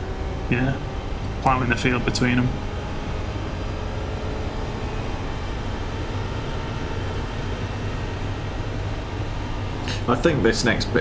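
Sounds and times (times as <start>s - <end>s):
race car engine drone: 0.0s - 11.0s
road noise: 0.0s - 11.0s.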